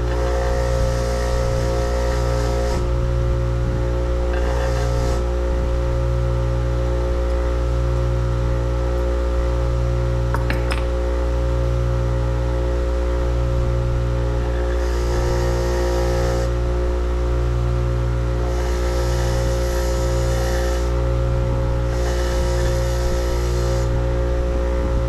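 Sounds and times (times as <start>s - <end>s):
pulsing machine hum: 0.0s - 25.0s.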